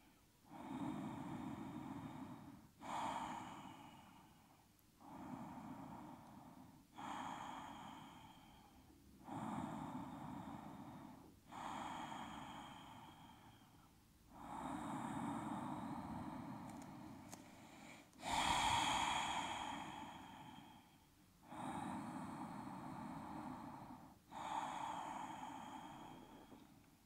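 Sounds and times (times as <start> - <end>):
person breathing deeply: 0.0 - 26.8.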